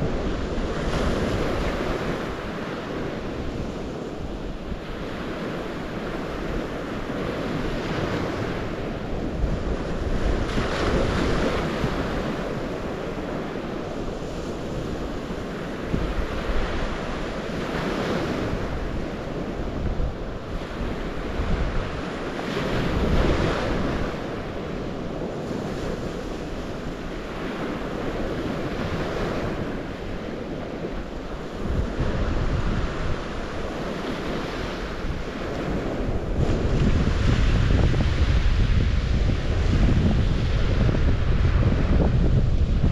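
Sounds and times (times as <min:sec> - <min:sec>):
waves washing onto shore: 0:00.0 - 0:42.9
wind rumbling on microphone: 0:00.0 - 0:42.9.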